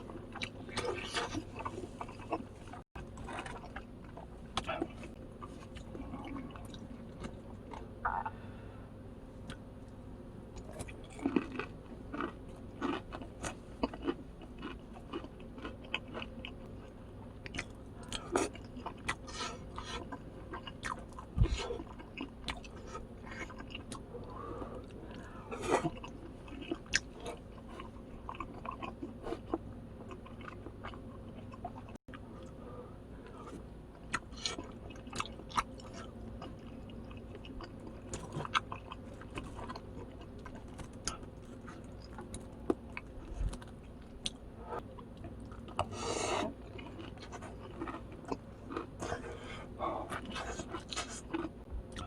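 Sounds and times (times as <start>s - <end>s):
chewing with crunches: 0.0s - 8.4s, 9.4s - 52.0s.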